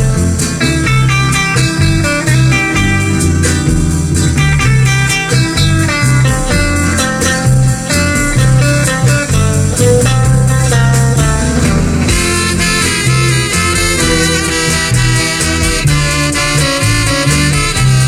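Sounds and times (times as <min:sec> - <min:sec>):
guitar: 0:00.0 - 0:18.0
plucked bass: 0:00.0 - 0:18.0.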